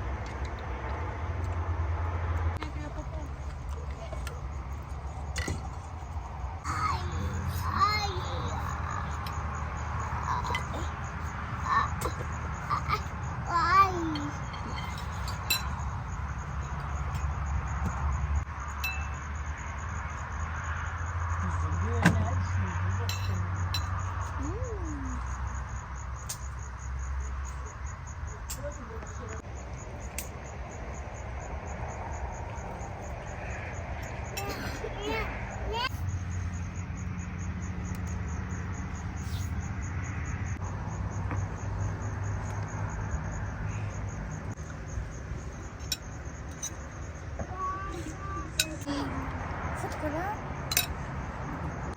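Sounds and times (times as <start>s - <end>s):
insect chirping: 0.0s - 51.9s.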